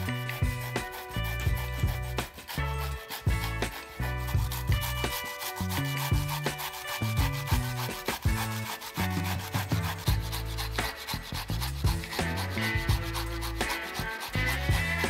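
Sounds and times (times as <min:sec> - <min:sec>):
background music: 0:00.0 - 0:15.0
onion rasping on metal grater: 0:00.0 - 0:15.0.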